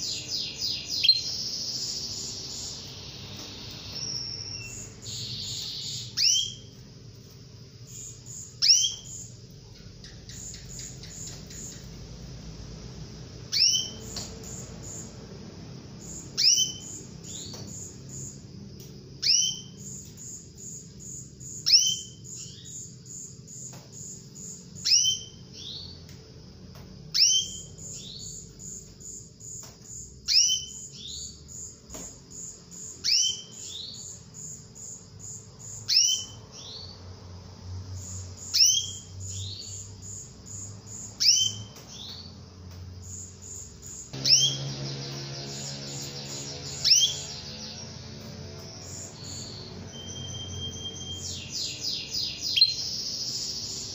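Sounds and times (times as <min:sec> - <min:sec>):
canary calling: 0:00.0 - 0:12.2, 0:13.4 - 0:15.2, 0:15.8 - 0:18.4, 0:19.2 - 0:26.0, 0:27.1 - 0:31.7, 0:32.4 - 0:37.1, 0:37.9 - 0:42.4, 0:43.0 - 0:53.9.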